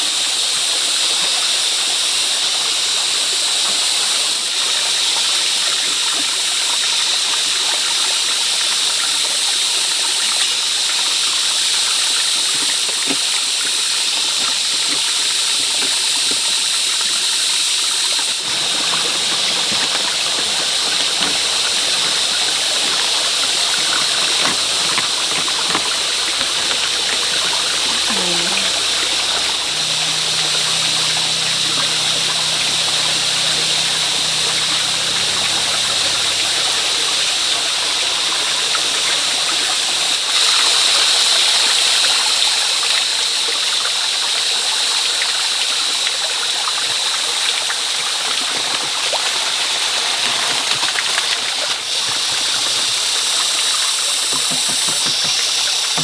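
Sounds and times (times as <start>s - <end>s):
water rushing: 0.0s - 43.6s, 44.2s - 56.0s.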